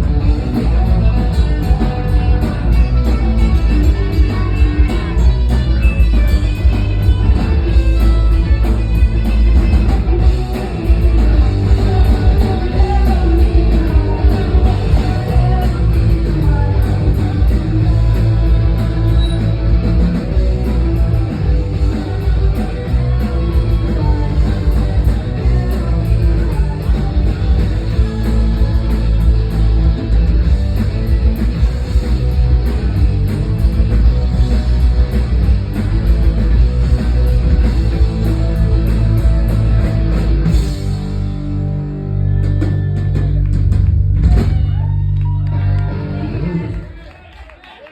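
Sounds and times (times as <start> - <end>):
rock band playing: 0.0 - 47.2.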